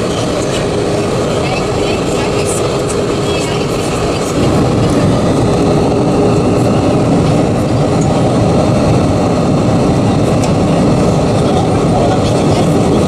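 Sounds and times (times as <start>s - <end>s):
aircraft cabin engine rumble: 0.0s - 13.0s
airflow rushing: 0.0s - 13.0s.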